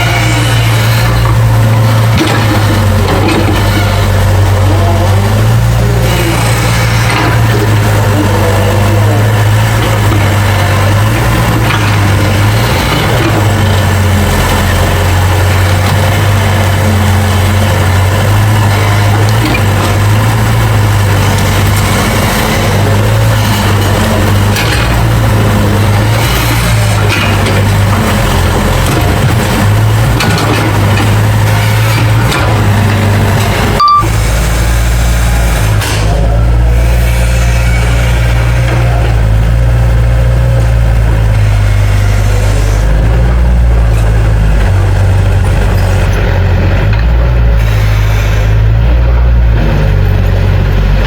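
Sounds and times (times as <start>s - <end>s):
diesel engine droning: 0.0s - 51.0s.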